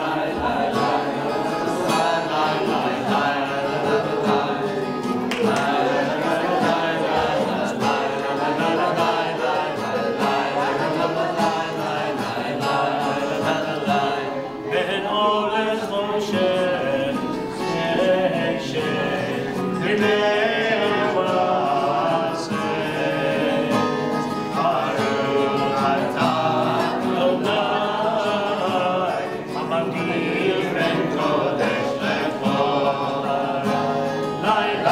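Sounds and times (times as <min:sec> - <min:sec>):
group of people singing: 0:00.0 - 0:34.9.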